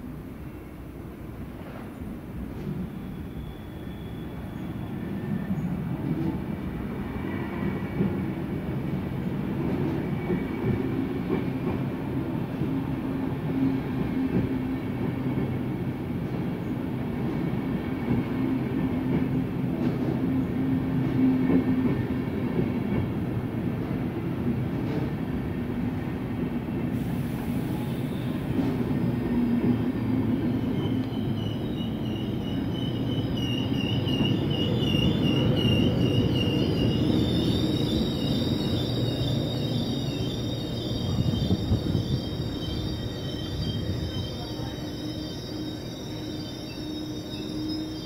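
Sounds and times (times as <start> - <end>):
train wheels rolling on rails: 1.3 - 48.0.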